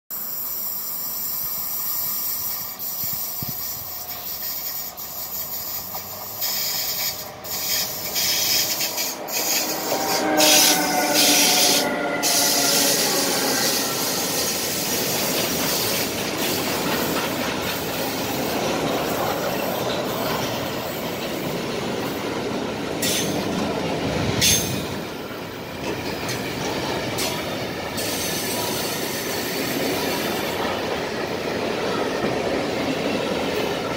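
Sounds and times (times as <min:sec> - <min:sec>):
locomotive whine: 0:00.8 - 0:33.9.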